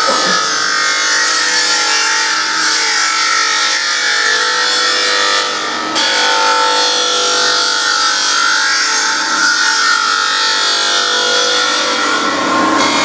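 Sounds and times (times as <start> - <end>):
surface grinder grinding steel: 0.0 - 13.0.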